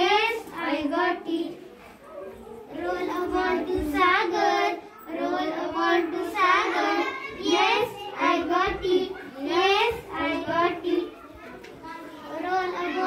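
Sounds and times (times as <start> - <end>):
children singing: 2.4 - 13.0.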